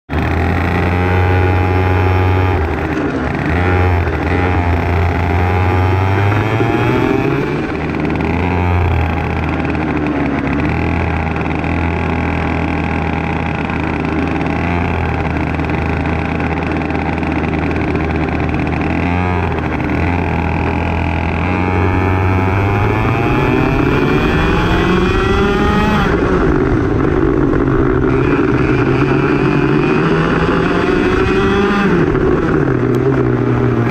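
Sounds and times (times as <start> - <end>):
kart engine revving: 0.1 - 33.9.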